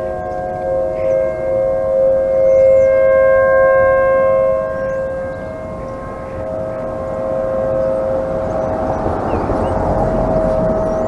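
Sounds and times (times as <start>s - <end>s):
distant warning sirens: 0.0s - 11.0s.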